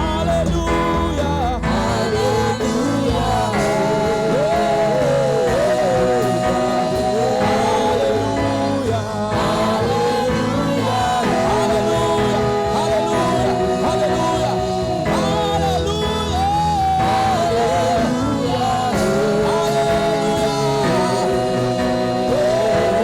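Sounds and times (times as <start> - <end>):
instrumental backing with bass: 0.0 - 23.0
person singing: 0.0 - 23.0.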